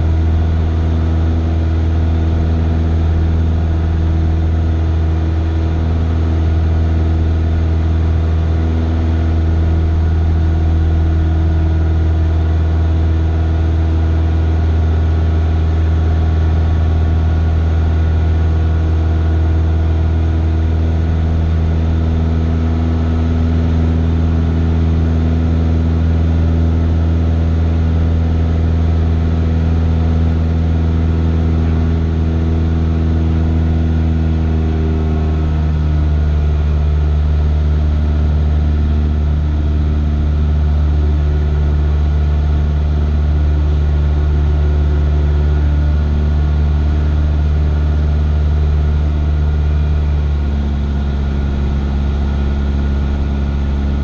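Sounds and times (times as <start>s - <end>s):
propeller plane engine droning: 0.0s - 54.0s.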